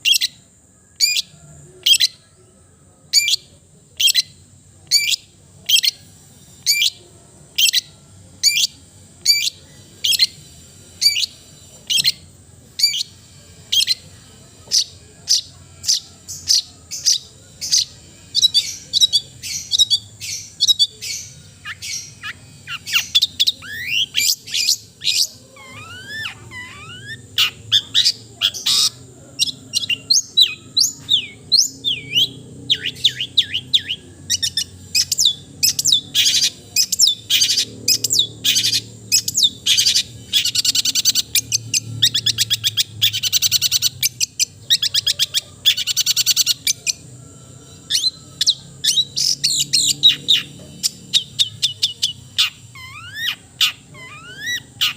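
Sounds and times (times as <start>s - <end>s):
bird calling and chattering: 3.1s - 54.9s.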